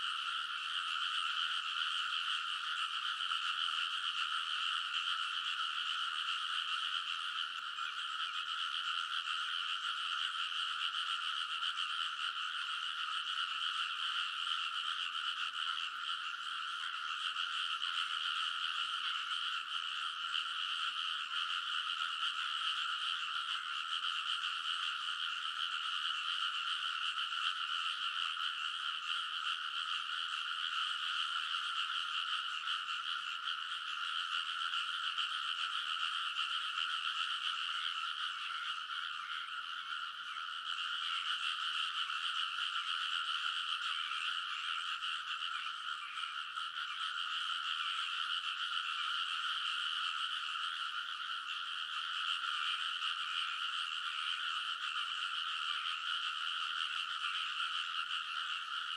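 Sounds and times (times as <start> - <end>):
frogs croaking: 0.0 - 58.9.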